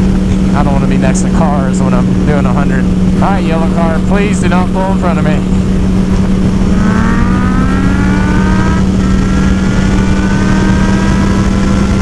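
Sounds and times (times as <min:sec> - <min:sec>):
motorcycle accelerating hard: 0:00.0 - 0:12.0
wind on microphone: 0:01.3 - 0:12.0.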